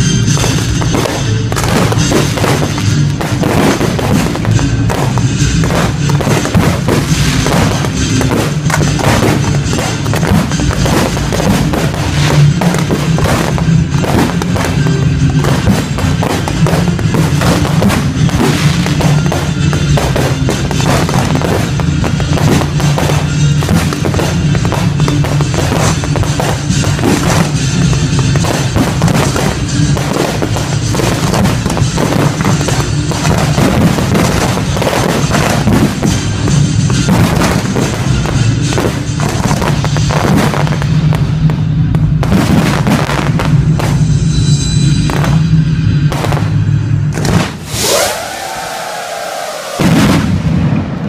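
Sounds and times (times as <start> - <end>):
fireworks bangs and crackles: 0.0 - 51.0
loud music: 0.0 - 51.0.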